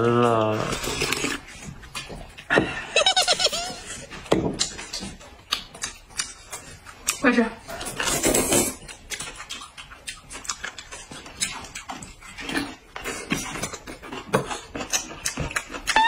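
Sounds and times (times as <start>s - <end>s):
noodles being slurped: 0.0s - 5.2s, 7.7s - 16.0s
chewing and lip-smacking: 0.0s - 16.0s.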